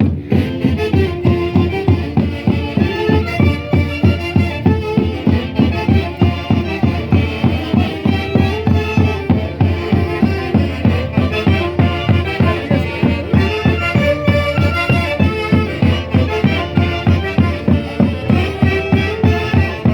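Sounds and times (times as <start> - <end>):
band playing dance music: 0.0 - 19.9.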